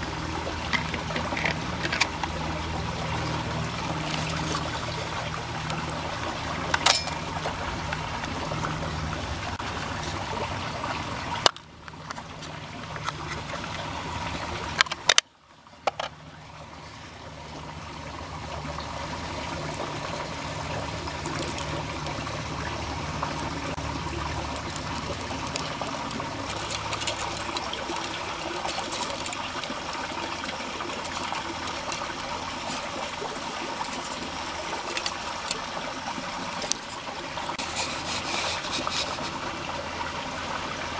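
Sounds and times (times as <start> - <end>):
creek waterfall trickling: 0.0 - 40.9.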